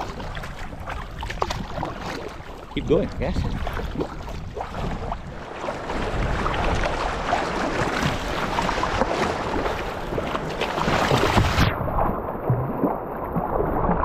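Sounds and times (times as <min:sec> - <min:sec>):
wind buffeting microphone: 0:00.0 - 0:12.0
paddle blades splashing: 0:00.0 - 0:14.0
water slapping against hull: 0:00.0 - 0:14.0.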